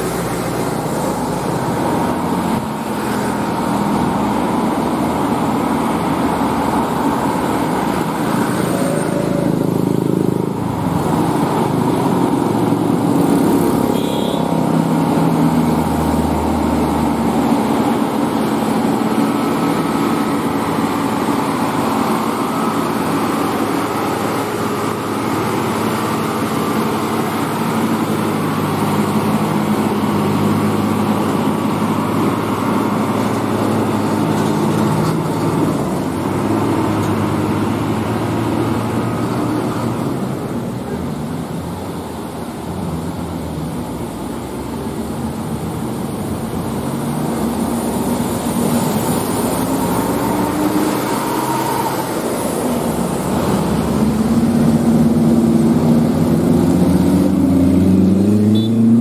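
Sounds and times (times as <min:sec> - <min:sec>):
road traffic: 0:00.0 - 0:59.0
truck diesel engine under load: 0:00.0 - 0:59.0.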